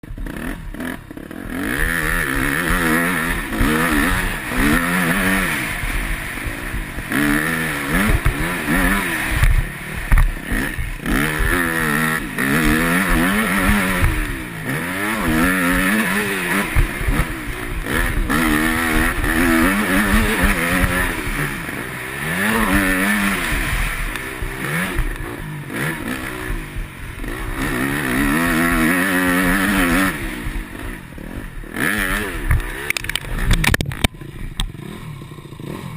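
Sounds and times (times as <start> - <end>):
motocross bike engine revving: 0.0 - 35.9.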